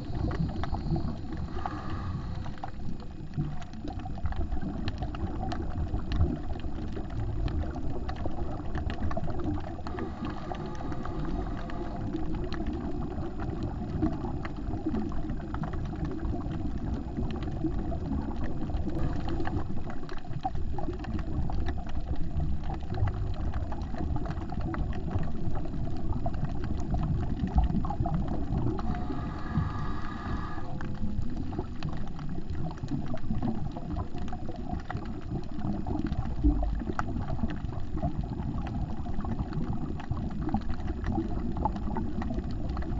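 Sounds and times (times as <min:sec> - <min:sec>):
underwater crackling clicks: 0:00.0 - 0:42.9.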